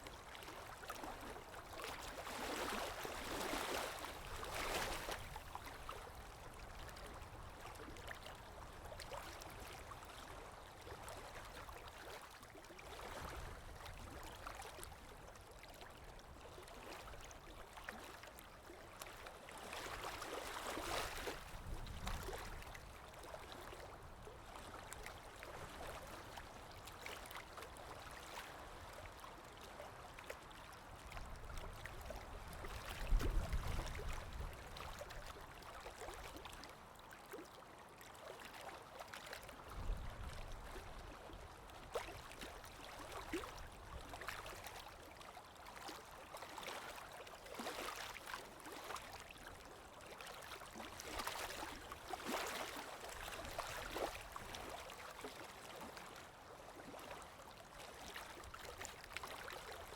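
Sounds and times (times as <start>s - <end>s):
water lapping and splashing: 0.0s - 59.9s.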